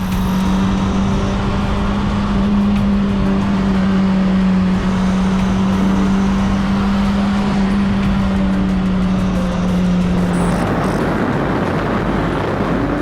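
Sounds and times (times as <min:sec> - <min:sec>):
loud wind rush: 0:00.0 - 0:13.0
motorcycle engine humming: 0:00.0 - 0:13.0.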